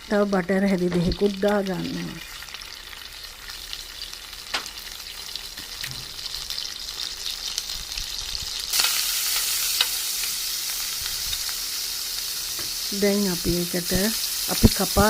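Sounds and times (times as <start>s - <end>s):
oil and butter sizzling in pan: 0.0s - 15.0s.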